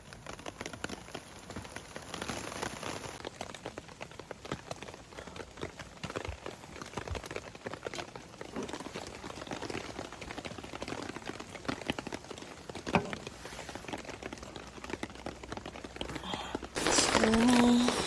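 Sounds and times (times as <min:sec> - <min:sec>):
rain pattering on a tarp: 0:00.0 - 0:18.0.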